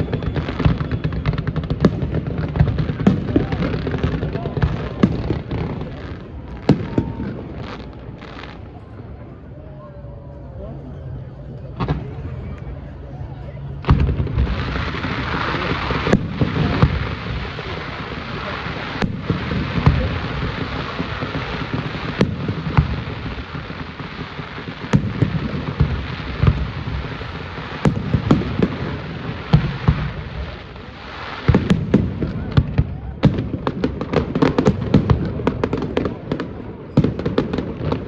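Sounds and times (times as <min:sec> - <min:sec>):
fireworks bangs: 0:00.0 - 0:09.0, 0:13.8 - 0:38.0
steady background noise: 0:00.0 - 0:38.0.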